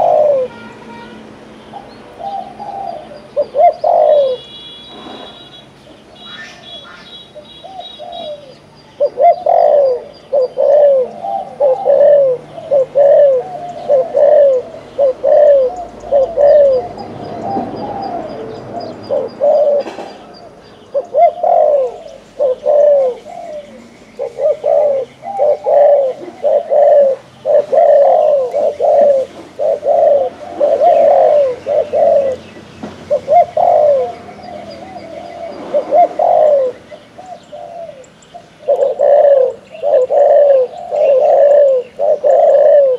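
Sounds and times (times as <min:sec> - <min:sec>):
dove cooing: 0:00.0 - 0:00.6, 0:01.7 - 0:05.4, 0:06.2 - 0:42.9.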